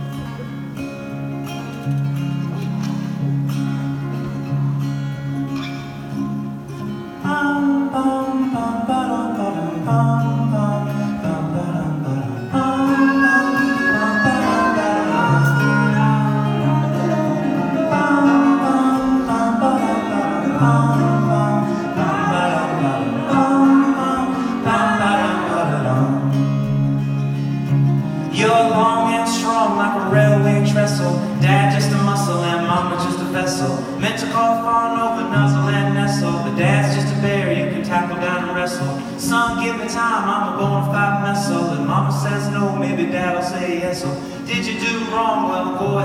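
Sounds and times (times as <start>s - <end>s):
acoustic guitars playing: 0.0s - 46.0s
men singing: 7.3s - 26.4s, 28.3s - 46.0s.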